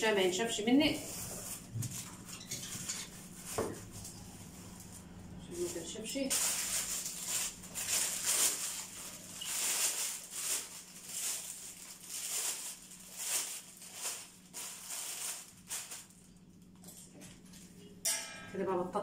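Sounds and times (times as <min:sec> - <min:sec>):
plastic sheet crinkling: 0:00.0 - 0:16.7.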